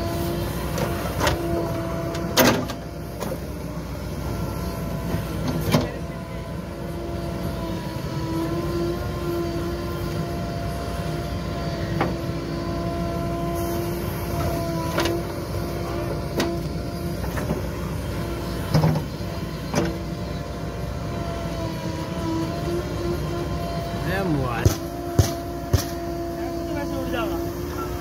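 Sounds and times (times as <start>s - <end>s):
diesel engine with hydraulic whine: 0.0s - 28.0s.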